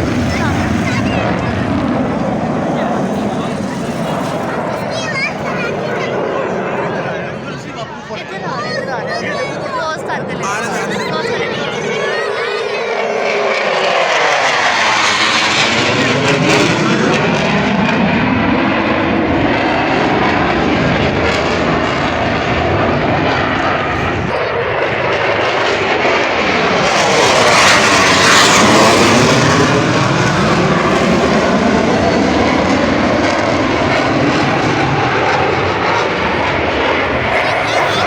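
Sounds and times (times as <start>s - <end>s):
military aircraft flying overhead: 0.0s - 38.0s.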